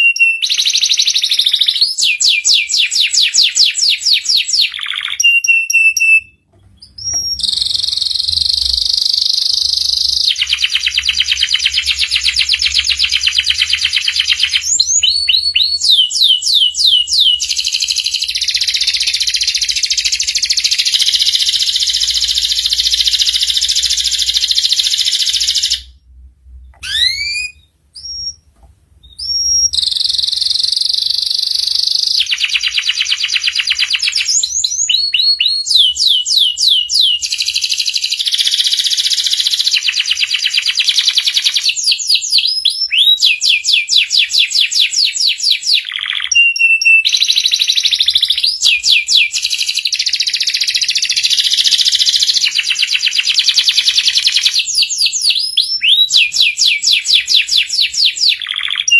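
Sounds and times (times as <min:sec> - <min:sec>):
canary singing trills: 0:00.0 - 0:26.0, 0:26.8 - 0:58.9.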